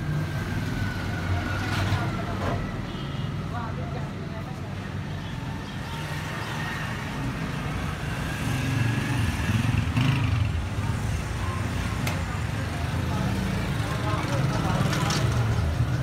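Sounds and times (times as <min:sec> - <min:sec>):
road traffic engines rumbling: 0:00.0 - 0:16.0.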